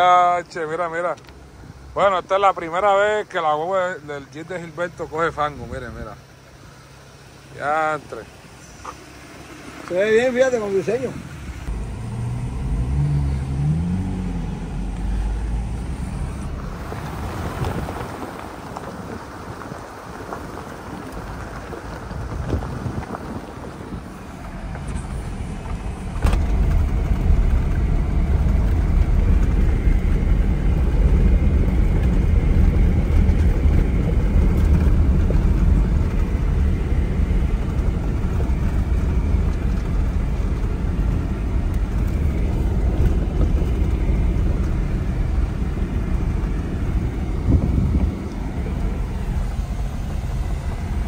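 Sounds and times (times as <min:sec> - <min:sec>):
car engine running: 0:00.0 - 0:51.0
tyres rumbling on gravel: 0:00.0 - 0:51.0.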